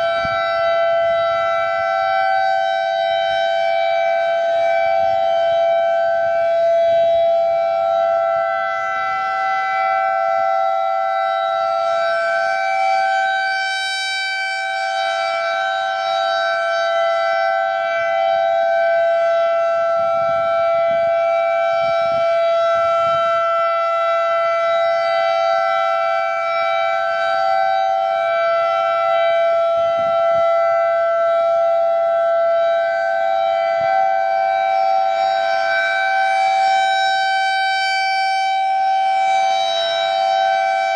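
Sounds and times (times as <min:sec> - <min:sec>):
civil defense sirens steady alert: 0:00.0 - 0:40.9.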